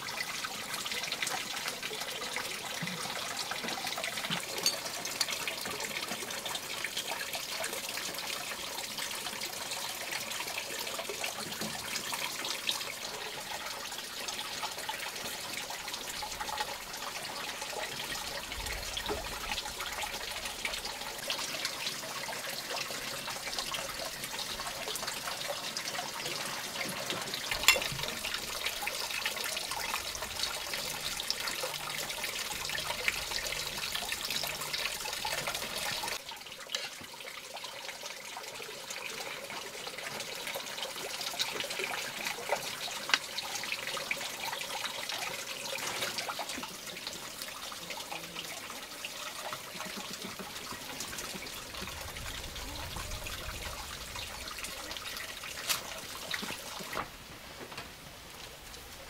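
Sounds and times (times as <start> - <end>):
water trickling: 0.0 - 57.1.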